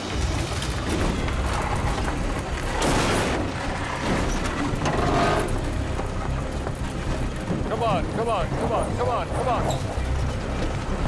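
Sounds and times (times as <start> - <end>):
dramatic music score: 0.0 - 11.0.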